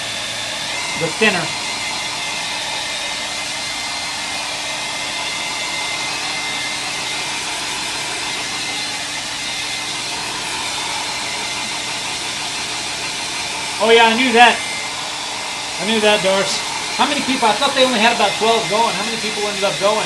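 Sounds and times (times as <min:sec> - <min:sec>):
hairdryer blowing: 0:00.0 - 0:20.0.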